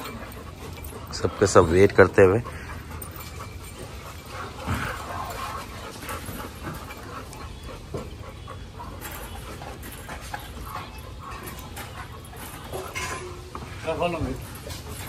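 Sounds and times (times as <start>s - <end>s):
dogs whining softly: 0.0s - 15.0s.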